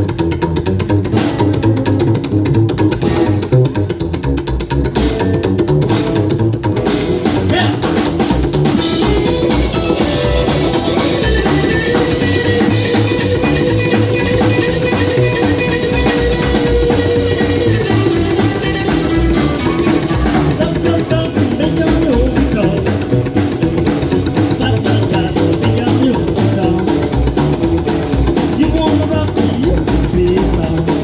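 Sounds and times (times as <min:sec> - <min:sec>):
bass guitar: 0:00.0 - 0:31.0
drum kit: 0:00.0 - 0:31.0
electric guitar: 0:00.0 - 0:31.0.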